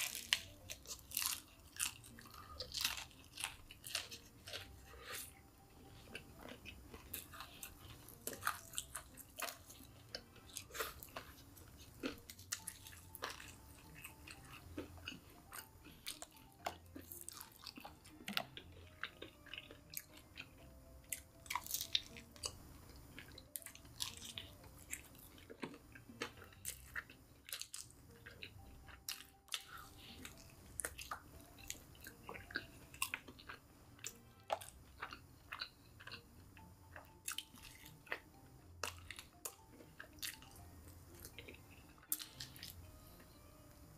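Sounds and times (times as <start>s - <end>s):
chewing crispy fried chicken: 0.0s - 43.4s.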